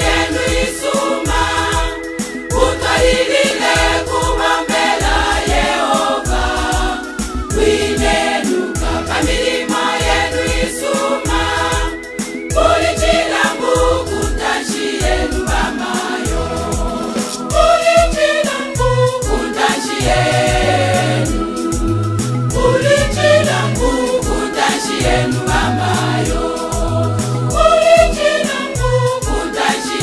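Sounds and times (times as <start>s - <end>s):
choir singing gospel song: 0.0s - 30.0s
steady beat with bass: 0.0s - 30.0s.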